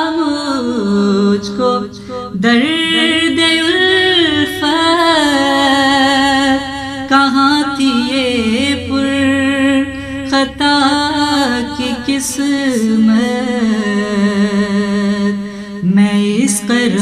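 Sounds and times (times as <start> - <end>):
man singing long ornamented notes: 0.0 - 17.0.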